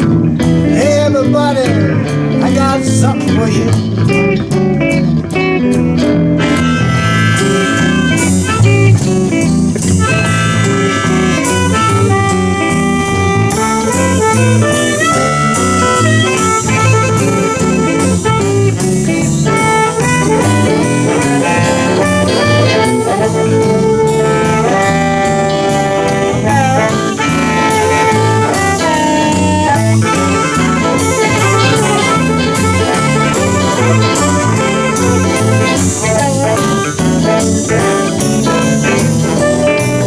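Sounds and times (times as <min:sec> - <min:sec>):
blues band playing: 0:00.0 - 0:40.0
saxophone solo: 0:00.0 - 0:40.0.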